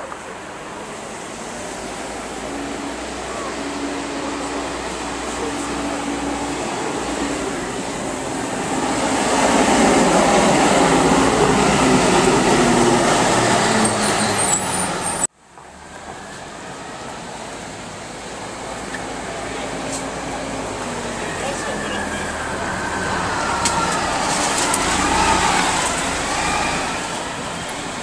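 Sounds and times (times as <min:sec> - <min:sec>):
bus driving past: 0:00.0 - 0:28.0
street traffic: 0:00.0 - 0:28.0.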